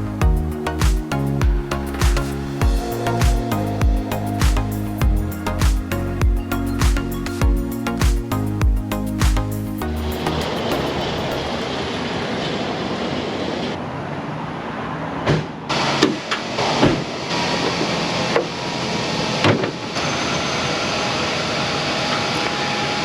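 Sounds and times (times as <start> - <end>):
steady mechanical rushing noise: 0.0 - 23.0.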